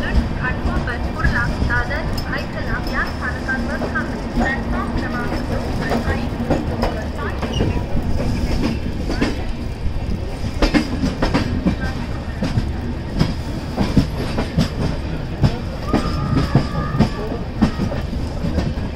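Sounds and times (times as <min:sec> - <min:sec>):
steady rolling rumble: 0:00.0 - 0:18.9
train wheels clattering over rail joints: 0:00.0 - 0:18.9.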